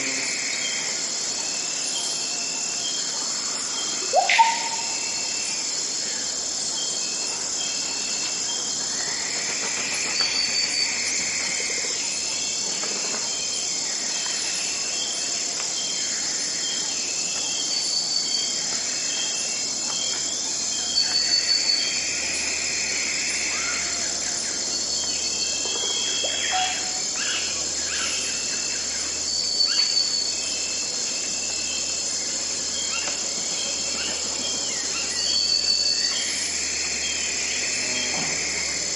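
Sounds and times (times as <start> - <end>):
insects chorus: 0.0 - 38.9.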